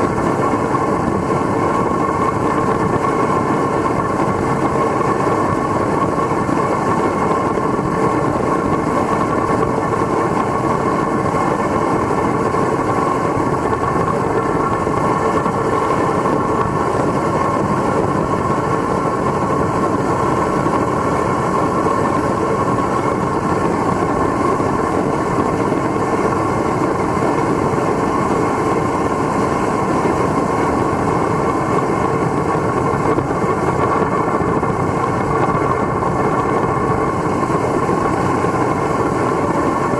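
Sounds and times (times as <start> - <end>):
burner flame roaring: 0.0 - 39.9.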